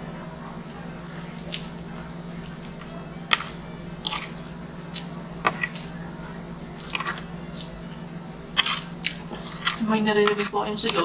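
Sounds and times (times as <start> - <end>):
steady low hum: 0.0 - 11.0
close-up chewing: 1.2 - 11.0.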